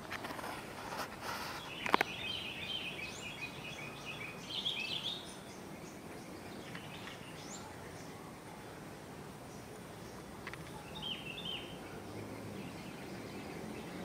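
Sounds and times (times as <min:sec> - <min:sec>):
background hiss: 0:00.0 - 0:14.0
birds chirping: 0:00.0 - 0:14.0.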